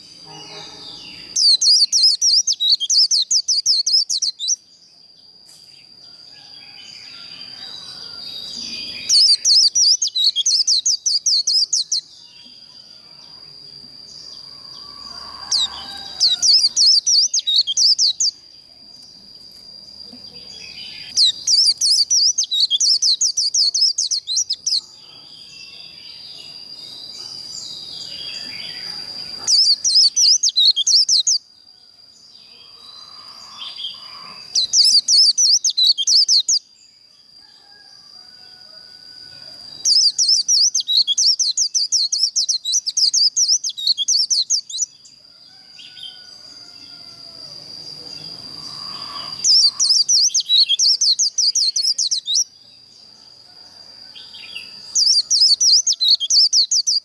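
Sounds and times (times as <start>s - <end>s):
bird twittering song: 0.0s - 5.9s, 6.6s - 31.5s, 32.4s - 37.0s, 39.6s - 45.2s, 47.9s - 52.6s, 54.2s - 57.0s.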